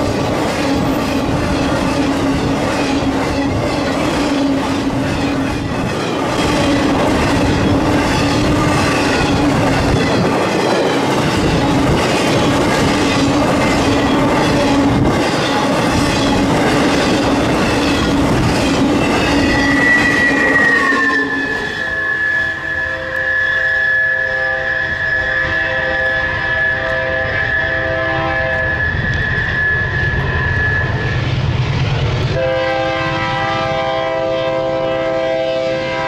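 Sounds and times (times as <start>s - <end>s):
freight train wheels on rails: 0.0s - 36.0s
high steady tone: 1.2s - 31.4s.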